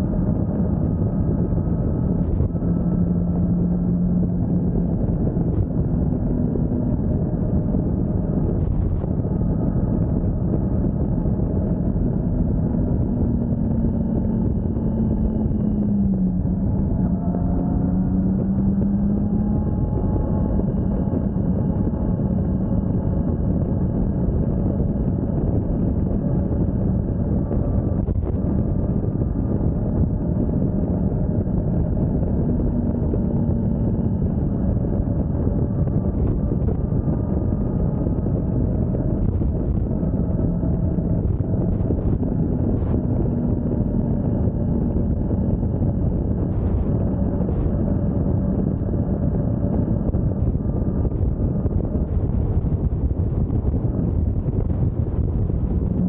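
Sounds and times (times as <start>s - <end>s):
motorcycle engine hum: 0.0s - 56.0s
wind rushing over microphone: 0.0s - 56.0s.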